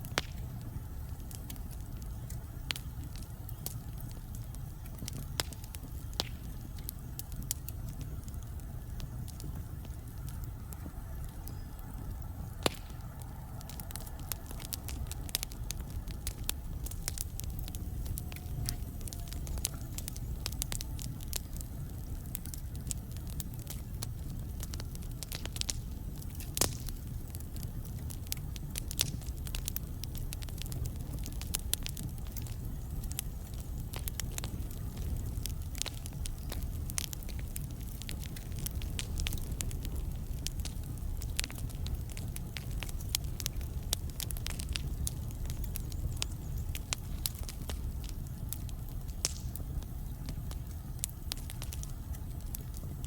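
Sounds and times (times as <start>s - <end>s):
low rumble of flames: 0.0s - 53.0s
wood fire crackling and popping: 0.0s - 53.0s.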